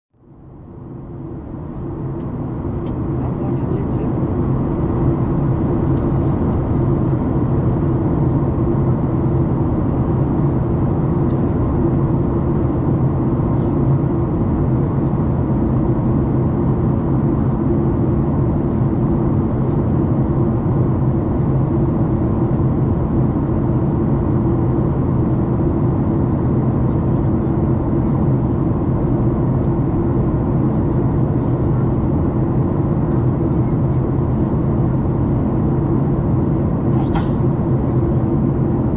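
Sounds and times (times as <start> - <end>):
airplane cabin roar: 0.2 - 38.9.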